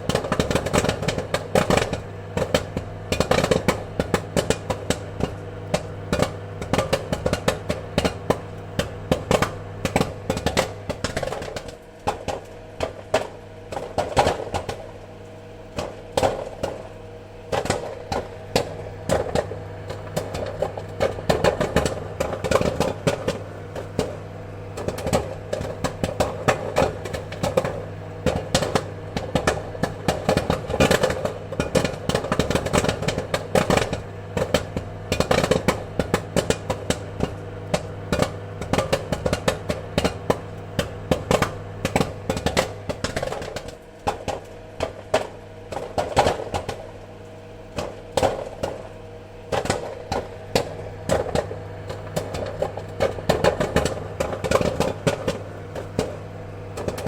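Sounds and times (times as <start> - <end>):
popcorn popping: 0.0 - 57.0
steady low hum: 0.0 - 57.0.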